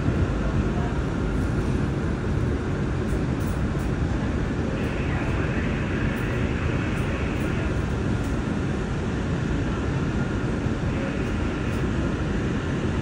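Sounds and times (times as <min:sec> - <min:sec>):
faint train whine: 0:00.0 - 0:13.0.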